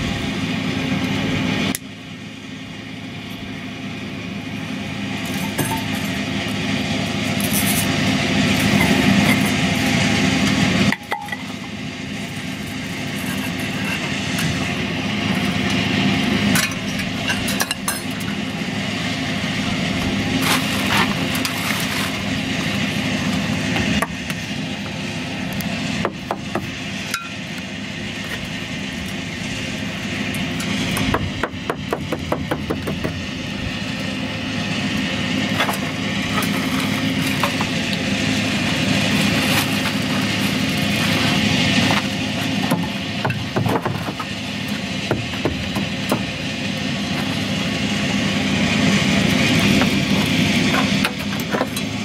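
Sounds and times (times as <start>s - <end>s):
steady engine hum: 0.0s - 52.0s.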